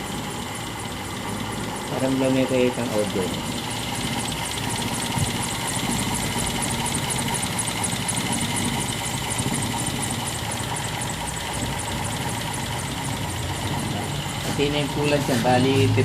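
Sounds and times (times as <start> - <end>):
car engine idling: 0.0 - 16.0
high-pitched ticking: 0.0 - 16.0.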